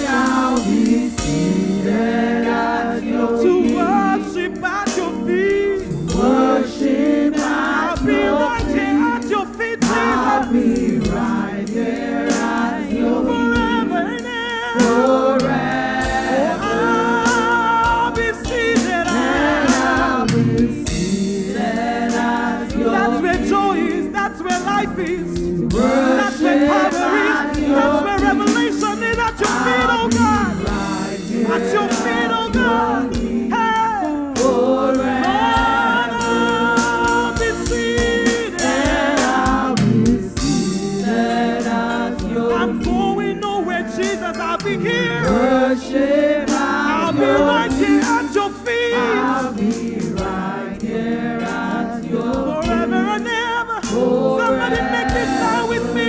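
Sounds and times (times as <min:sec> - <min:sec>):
musical accompaniment: 0:00.0 - 0:56.0
voices singing gospel song: 0:00.0 - 0:56.0.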